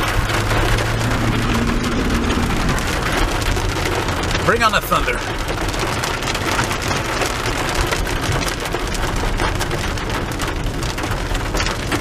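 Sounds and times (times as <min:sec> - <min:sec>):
car driving on wet road: 0:00.0 - 0:12.0
rain on car roof: 0:00.0 - 0:12.0.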